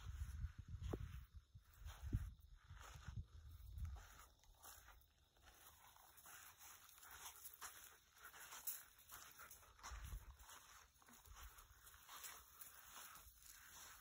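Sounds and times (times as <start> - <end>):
footsteps on dirt: 0.0 - 14.0.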